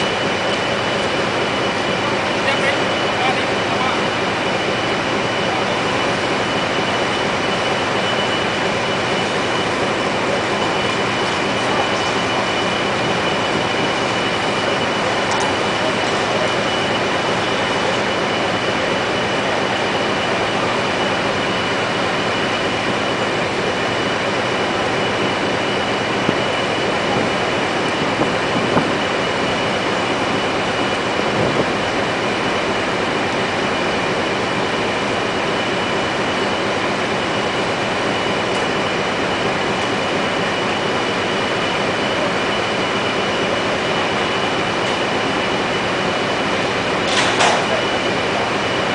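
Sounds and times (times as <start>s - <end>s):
heavy machinery whining: 0.0s - 48.9s.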